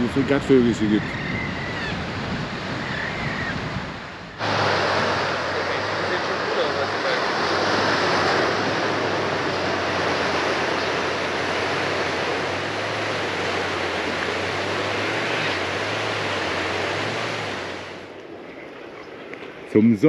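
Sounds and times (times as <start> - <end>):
surf breaking on rocky shore: 0.0 - 19.8.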